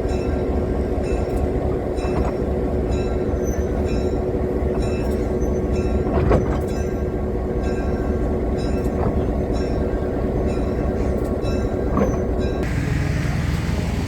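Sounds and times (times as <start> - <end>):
train car rumbling on track: 0.0 - 14.0.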